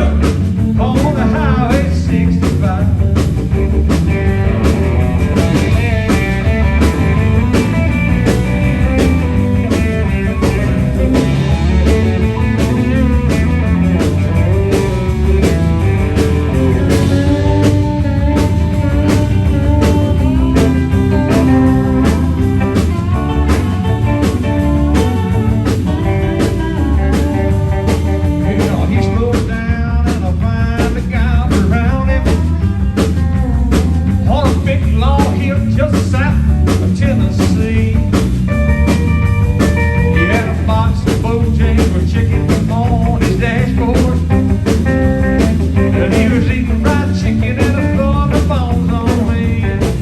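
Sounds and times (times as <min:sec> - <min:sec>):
electric guitar lines: 0:00.0 - 0:30.0, 0:36.4 - 0:50.0
bass guitar: 0:00.0 - 0:50.0
drum beat: 0:00.0 - 0:50.0.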